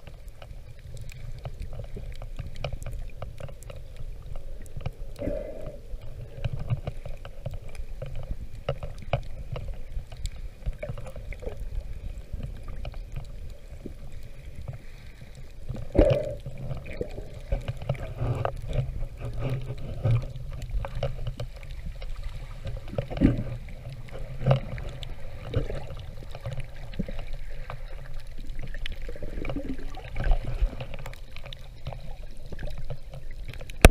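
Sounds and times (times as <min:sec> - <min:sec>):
muffled underwater rumble: 0:00.0 - 0:33.9
underwater clicks and knocks: 0:00.0 - 0:33.9
water gurgles: 0:00.0 - 0:33.9.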